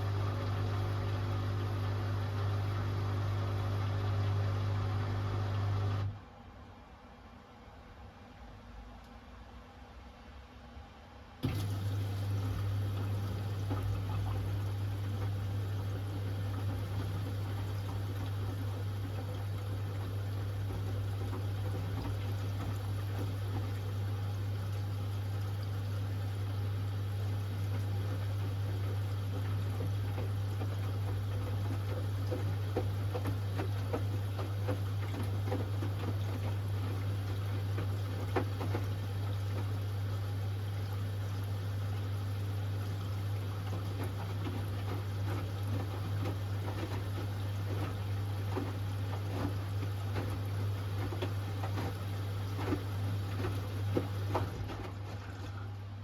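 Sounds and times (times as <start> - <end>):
water flowing through pipes: 0.0 - 6.2, 11.4 - 56.0
electrical hum: 0.0 - 6.3, 11.4 - 56.0.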